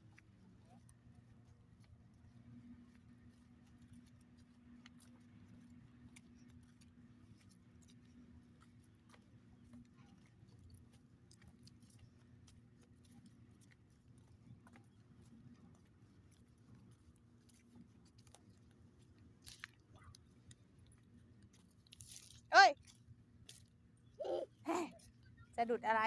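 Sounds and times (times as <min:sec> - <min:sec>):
small ticks: 0:01.8 - 0:24.4.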